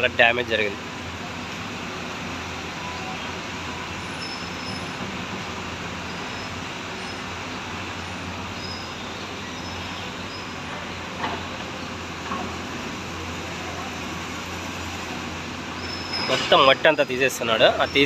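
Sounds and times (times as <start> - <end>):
excavator diesel engines running: 0.0 - 18.0.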